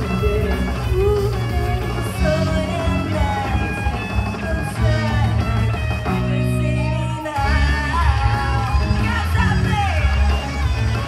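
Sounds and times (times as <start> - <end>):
woman singing: 0.0 - 10.4
rock band playing: 0.0 - 11.0.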